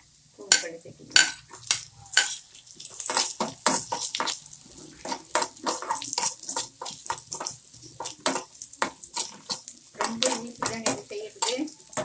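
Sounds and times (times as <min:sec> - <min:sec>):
sizzling in oil: 0:00.0 - 0:12.0
metal spatula scraping a pan: 0:00.5 - 0:12.0.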